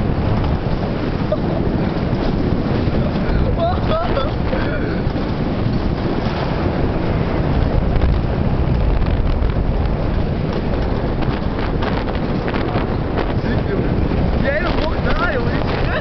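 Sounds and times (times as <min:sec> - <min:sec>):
coaster sled rumbling on metal rails: 0:00.0 - 0:16.0
wind buffeting microphone: 0:00.0 - 0:16.0.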